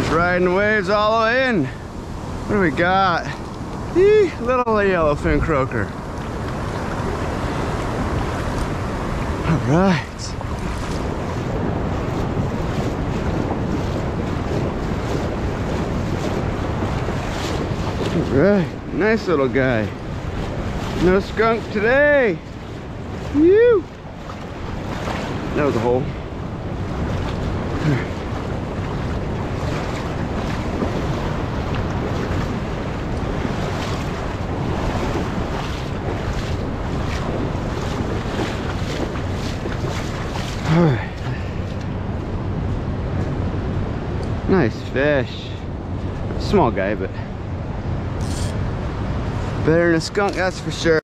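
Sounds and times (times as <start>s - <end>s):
ocean surf washing: 0.0s - 51.0s
wind buffeting microphone: 0.0s - 51.0s.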